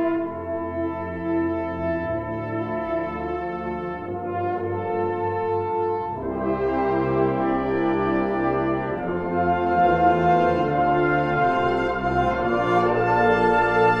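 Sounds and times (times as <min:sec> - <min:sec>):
wind ensemble playing sustained chords: 0:00.0 - 0:14.0.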